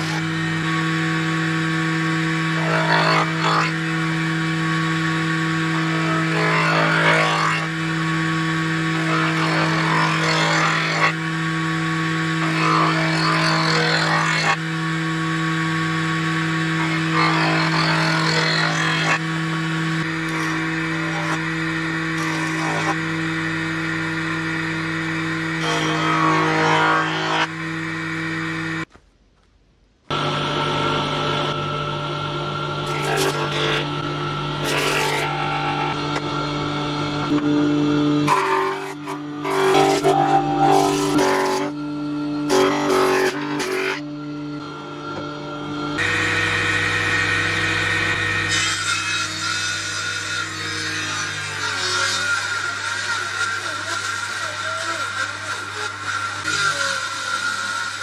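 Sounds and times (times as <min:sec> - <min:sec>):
cutterhead shaving wood: 0:00.0 - 0:28.9, 0:30.1 - 0:58.0
jointer motor hum: 0:00.0 - 0:28.9, 0:30.1 - 0:58.0.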